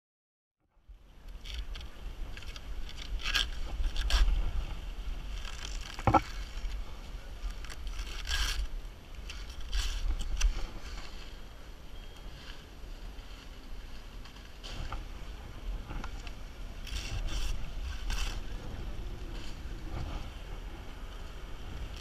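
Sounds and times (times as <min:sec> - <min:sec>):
wind rumbling on microphone: 0:00.7 - 0:22.0
dry palm fronds rustling: 0:00.8 - 0:22.0.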